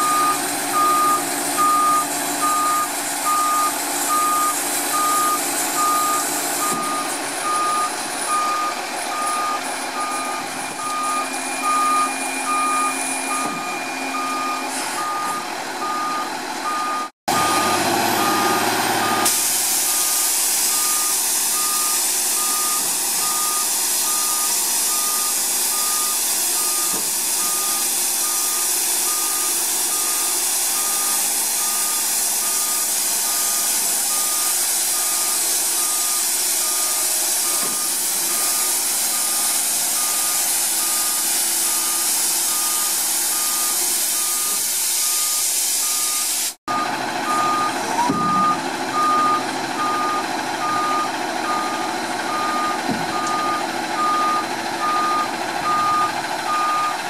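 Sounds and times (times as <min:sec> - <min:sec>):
truck backup alarm beeping: 0:00.0 - 0:57.0
truck rushing noise: 0:00.0 - 0:57.0.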